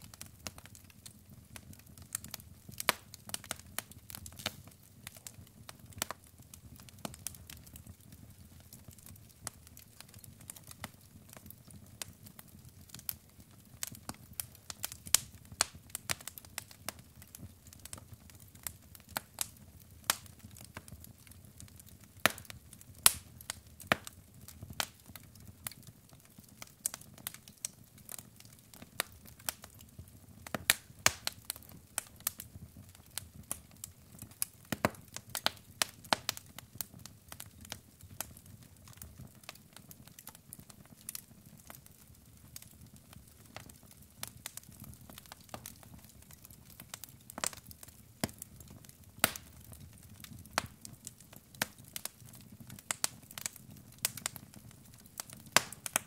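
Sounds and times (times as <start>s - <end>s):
pops and snaps of burning logs: 0.0s - 56.0s
wood fire crackling: 0.0s - 56.0s.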